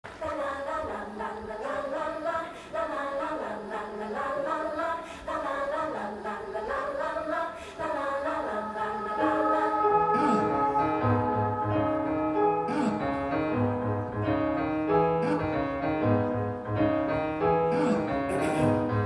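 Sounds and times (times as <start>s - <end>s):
choir-like voices singing: 0.0s - 16.6s, 17.4s - 19.0s.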